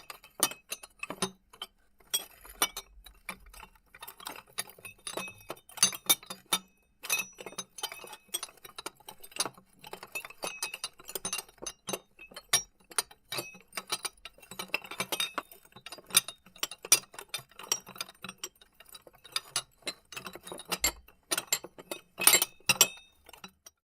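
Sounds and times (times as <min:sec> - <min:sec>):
glass items clinking: 0:00.0 - 0:08.7, 0:09.4 - 0:23.8.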